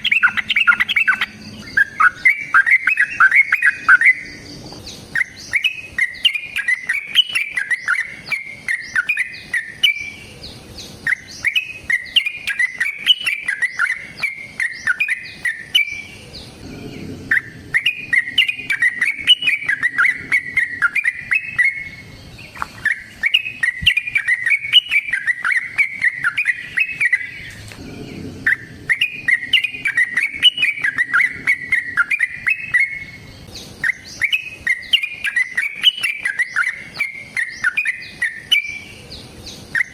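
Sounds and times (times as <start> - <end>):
bulbul bubbling song: 0.0 - 10.2, 11.0 - 39.0.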